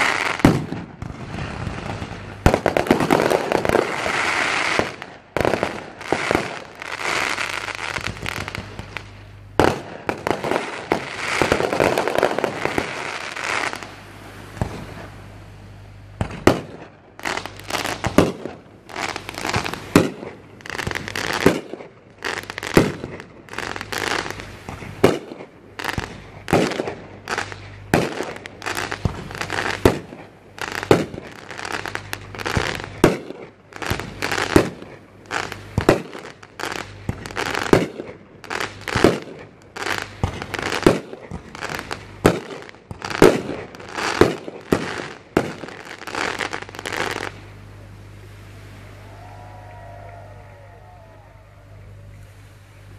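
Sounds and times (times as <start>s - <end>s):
fireworks bangs: 0.0s - 15.3s, 16.1s - 47.4s
fireworks crackling: 0.0s - 50.7s.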